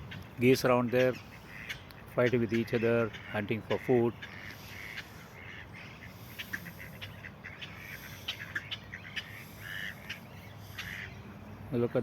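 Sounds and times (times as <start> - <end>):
ducks and geese calling: 0.0 - 12.0.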